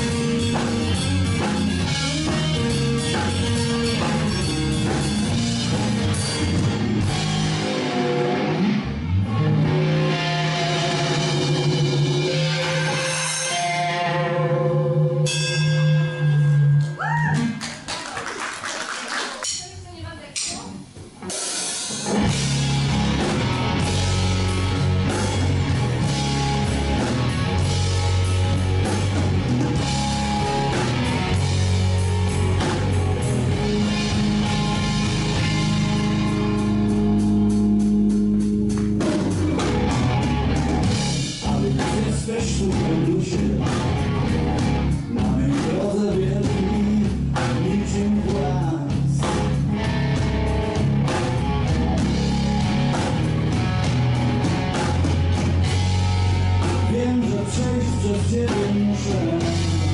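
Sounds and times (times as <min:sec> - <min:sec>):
drum kit: 0:00.0 - 0:15.5, 0:19.1 - 0:59.9
bass guitar: 0:00.0 - 0:18.0, 0:19.4 - 0:59.9
electric guitar: 0:00.0 - 0:18.3, 0:21.2 - 0:59.9.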